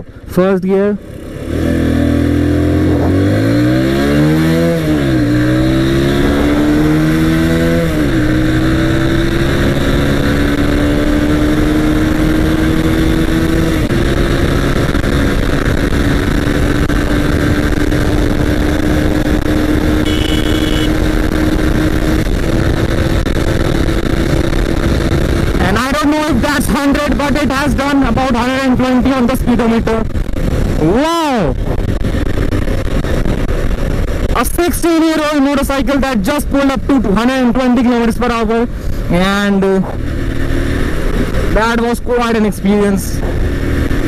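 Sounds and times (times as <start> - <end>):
motorcycle engine accelerating: 0.0 - 44.0
wind rush: 1.5 - 34.7, 38.6 - 42.0.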